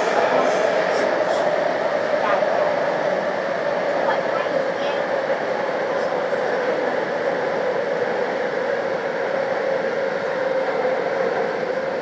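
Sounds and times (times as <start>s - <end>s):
metro train rumbling in tunnel: 0.0s - 12.0s.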